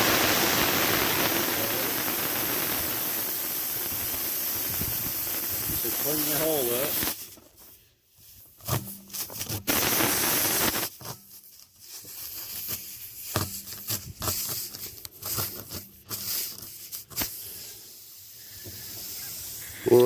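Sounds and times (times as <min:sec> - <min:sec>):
air hissing out of tire: 0:00.0 - 0:11.0, 0:12.0 - 0:20.0.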